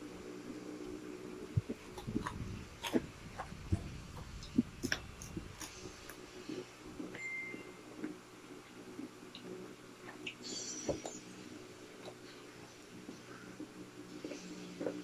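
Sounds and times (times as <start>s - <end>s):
faint steady hum: 0.0s - 15.0s
people chewing food: 0.0s - 15.0s.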